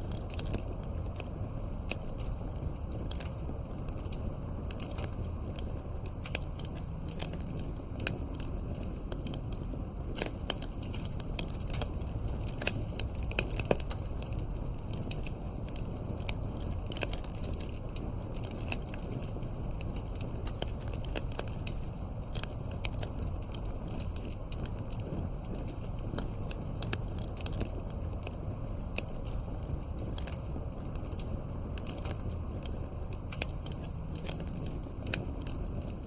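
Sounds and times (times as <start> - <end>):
campfire crackling and popping: 0.0 - 36.0
low rumble of burning fire: 0.0 - 36.0.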